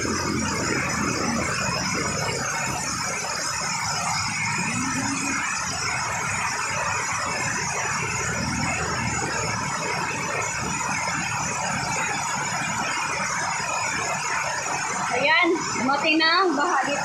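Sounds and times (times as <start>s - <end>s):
heavy rain on a roof: 0.0s - 17.0s
water pouring off roof edge: 0.0s - 17.0s.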